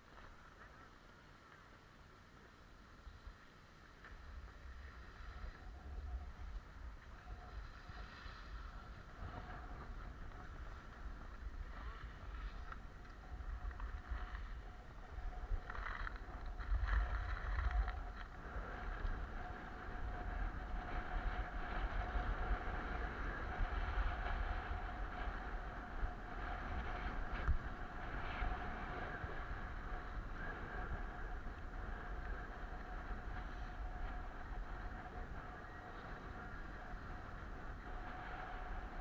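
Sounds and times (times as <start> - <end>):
skis scraping over snow: 3.0 - 39.0
wind buffeting microphone: 4.0 - 39.0.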